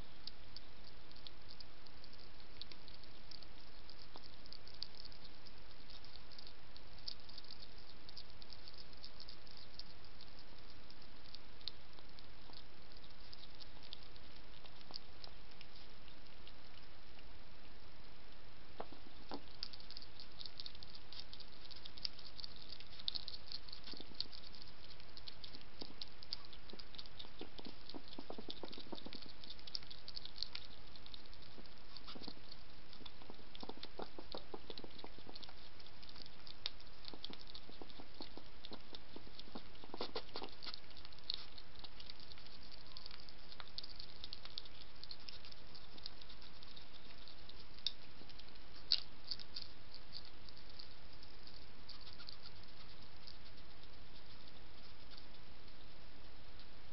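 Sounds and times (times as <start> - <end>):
hedgehog crunching biscuits: 0.0 - 56.9.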